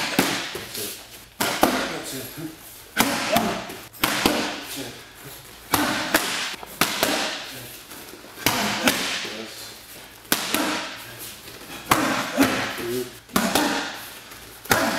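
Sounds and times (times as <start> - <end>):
boxing gloves smacking mitts: 0.0 - 2.1, 2.9 - 4.8, 5.6 - 14.9.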